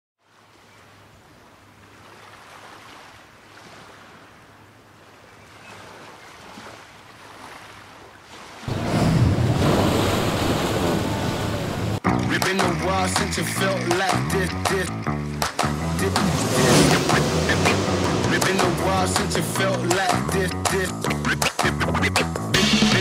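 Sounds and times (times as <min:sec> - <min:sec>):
boat engines humming: 0:01.4 - 0:22.8
propellers churning water: 0:01.5 - 0:21.6.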